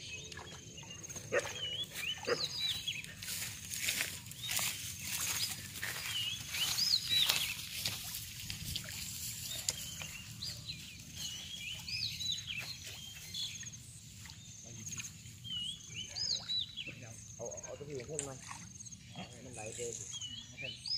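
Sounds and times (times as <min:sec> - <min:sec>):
small splashes on pond: 0:00.0 - 0:17.1, 0:17.8 - 0:18.8
birds chirping: 0:00.0 - 0:20.9.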